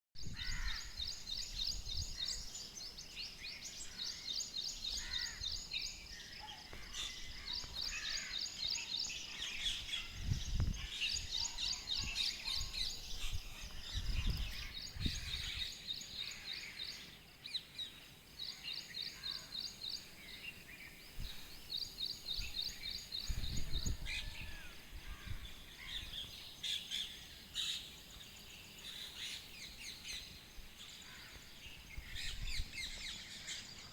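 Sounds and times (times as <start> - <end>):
birds singing and chirping: 0.2 - 33.9.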